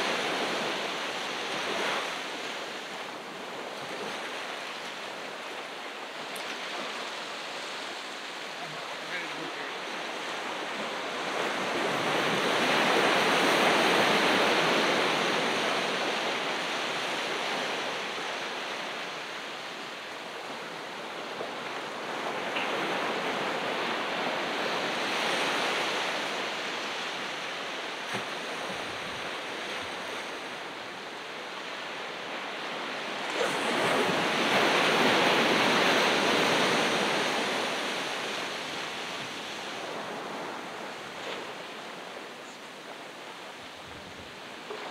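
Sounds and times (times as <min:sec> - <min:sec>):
waves breaking on shore: 0:00.0 - 0:44.9.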